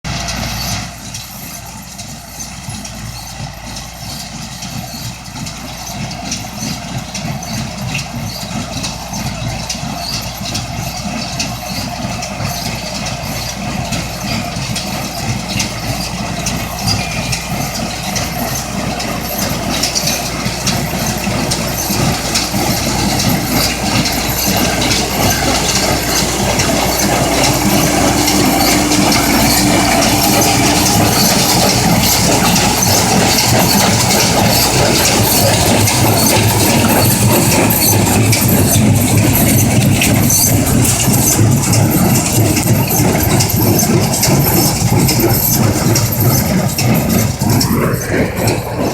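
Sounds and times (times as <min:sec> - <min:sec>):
tractor engine rumble: 0:00.0 - 0:48.9
baler mechanical clatter: 0:00.1 - 0:48.9.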